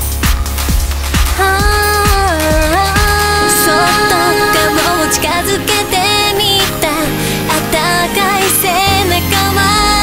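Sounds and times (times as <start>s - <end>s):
pop song playing: 0.0s - 10.0s.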